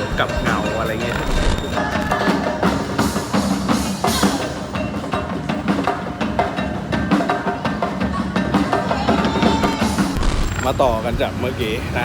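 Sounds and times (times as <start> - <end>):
marching band playing: 0.0 - 12.0
snare and tenor drums beating: 0.0 - 12.0.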